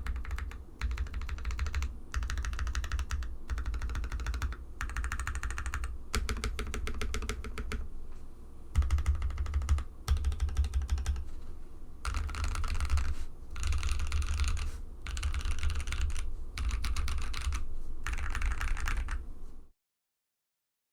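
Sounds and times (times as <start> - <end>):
fast typing on mechanical keyboard: 0.0 - 7.8, 8.8 - 11.2, 12.0 - 19.2.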